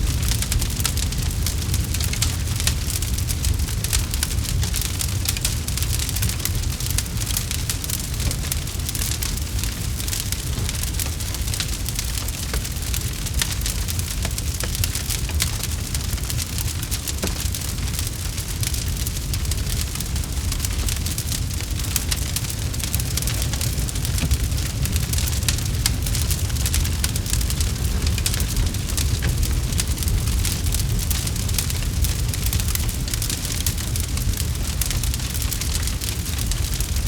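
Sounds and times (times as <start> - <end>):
burning wood crackling and popping: 0.0 - 37.0
low rumble of flames: 0.0 - 37.0.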